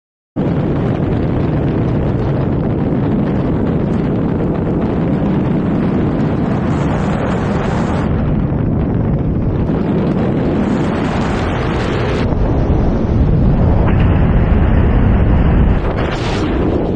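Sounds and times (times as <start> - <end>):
wind buffeting microphone: 0.4 - 16.9.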